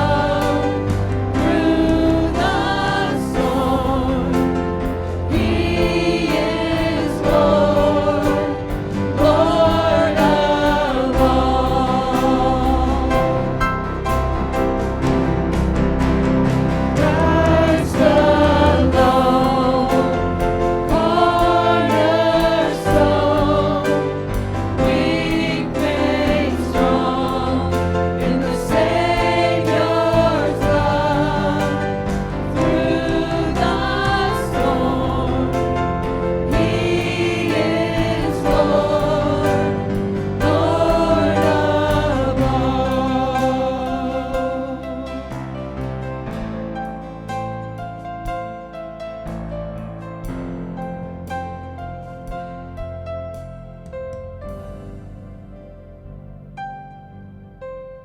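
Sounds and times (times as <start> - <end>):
gospel choir singing: 0.0 - 48.1
instrumental accompaniment with bass: 0.0 - 58.0.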